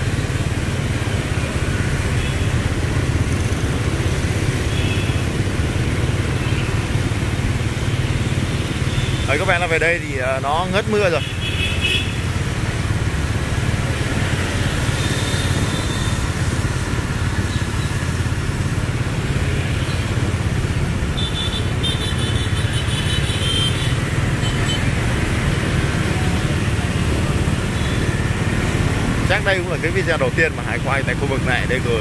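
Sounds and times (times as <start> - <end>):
motorbike traffic passing: 0.0 - 32.0.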